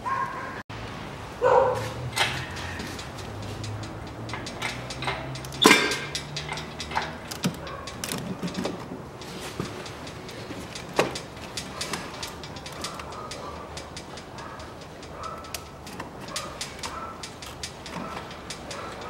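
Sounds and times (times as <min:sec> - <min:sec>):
metal clicks and clanks: 0:02.0 - 0:19.0.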